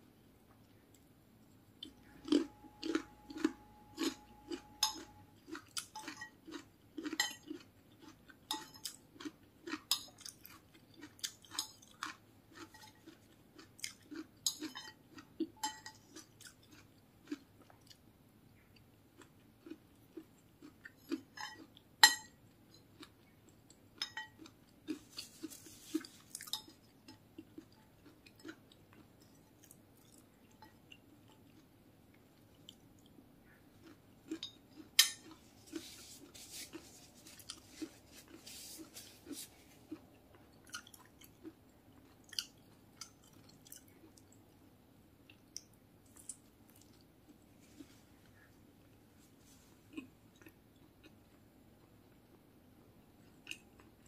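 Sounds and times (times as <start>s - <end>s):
chewing and crunching food: 1.8s - 54.0s.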